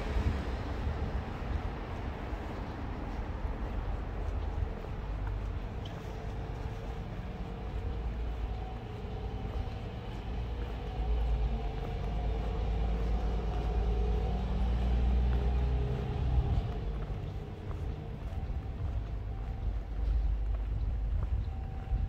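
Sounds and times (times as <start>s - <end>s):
vehicle passing with road rumble: 0.0s - 22.0s.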